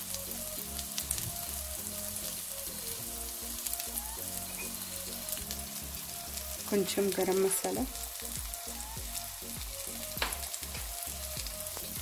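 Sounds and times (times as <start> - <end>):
background music: 0.0 - 12.0
onions sizzling in butter: 0.0 - 12.0.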